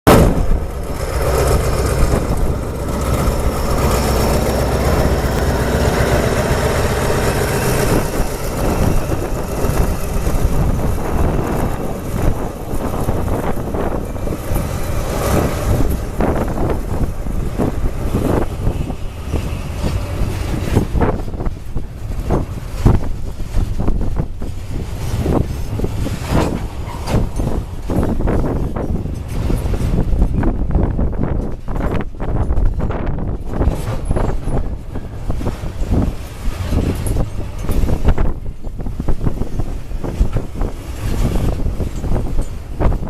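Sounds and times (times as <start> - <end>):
locomotive engine humming: 0.1 - 43.0
wagon wheels over rail joints: 0.1 - 43.0.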